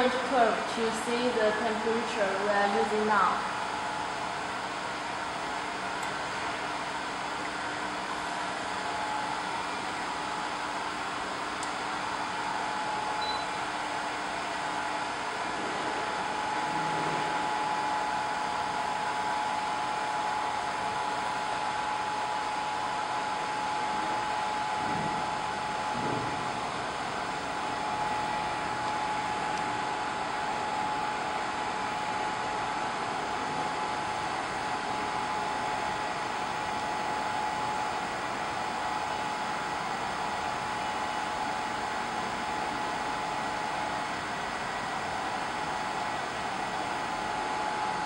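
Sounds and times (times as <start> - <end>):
hot-air fans blowing: 0.0 - 48.0
steady whine: 0.0 - 48.0.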